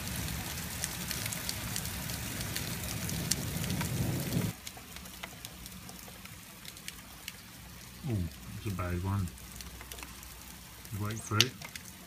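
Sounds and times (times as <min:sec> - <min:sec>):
heavy rain hissing: 0:00.0 - 0:04.6, 0:06.4 - 0:12.0
raindrop ticks: 0:00.0 - 0:12.0.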